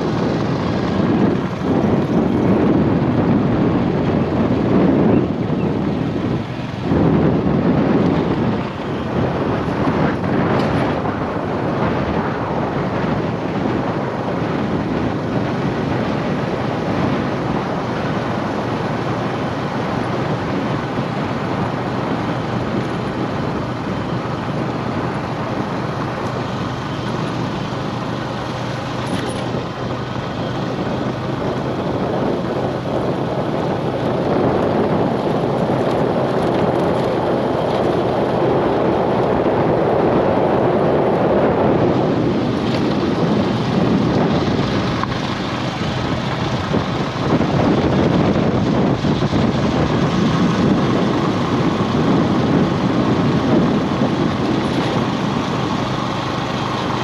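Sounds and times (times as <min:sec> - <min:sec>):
engine humming: 0:00.0 - 0:57.0
road noise: 0:00.0 - 0:57.0.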